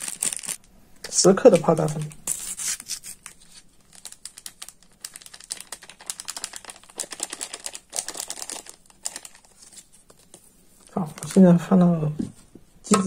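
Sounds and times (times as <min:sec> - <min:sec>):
packet crinkling: 0:00.0 - 0:11.5.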